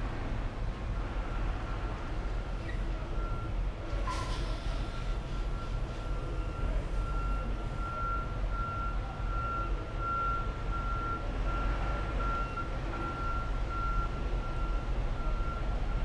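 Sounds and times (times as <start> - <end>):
truck reversing rumble: 0.0 - 16.0.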